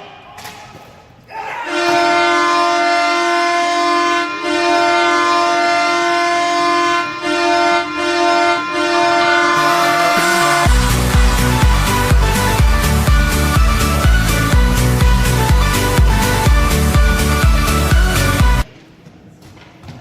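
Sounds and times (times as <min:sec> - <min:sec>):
goal horn blast: 0:01.7 - 0:18.7.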